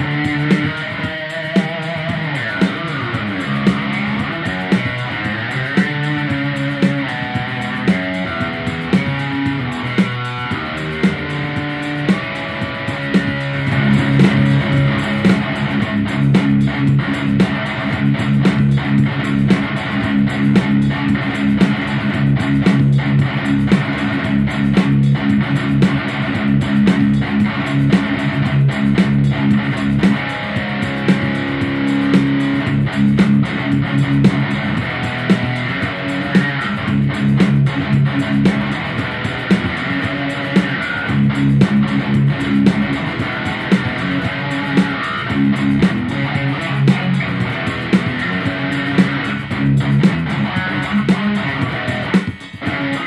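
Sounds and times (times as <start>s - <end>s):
guitar instrumental with beat: 0.0s - 53.0s.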